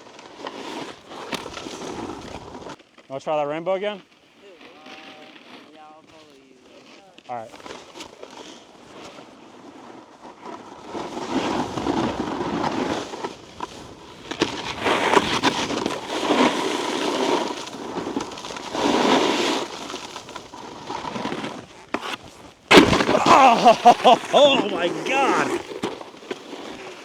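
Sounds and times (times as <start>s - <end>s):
snowboard scraping over icy snow: 0.0s - 27.0s.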